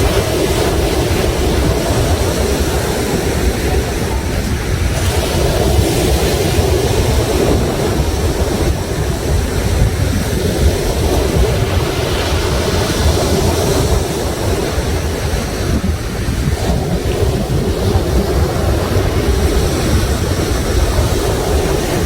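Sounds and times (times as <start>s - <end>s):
waves breaking on shore: 0.0s - 22.0s
wind rumbling on microphone: 0.0s - 22.0s.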